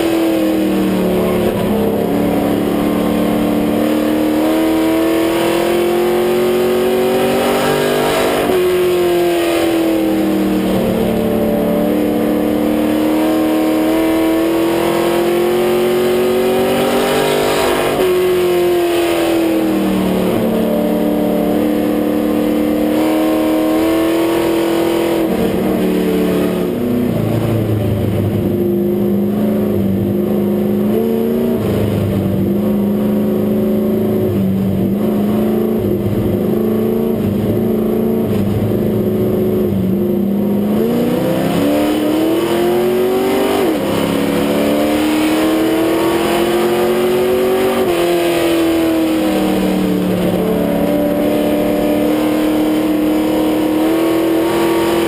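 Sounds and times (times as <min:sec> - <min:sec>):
race car engine: 0:00.0 - 0:55.0.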